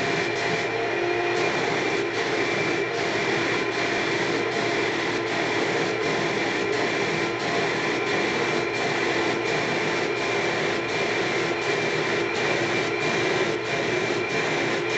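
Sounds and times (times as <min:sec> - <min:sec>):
air supply whine: 0:00.0 - 0:14.9
spray gun air hiss: 0:00.0 - 0:14.9.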